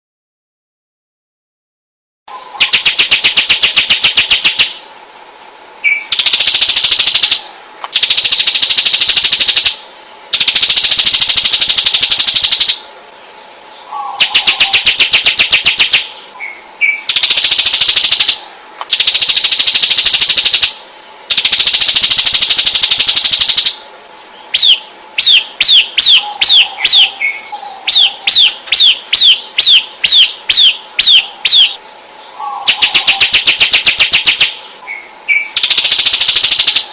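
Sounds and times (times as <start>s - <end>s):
songbird chattering trills: 2.3s - 4.9s, 5.8s - 36.9s.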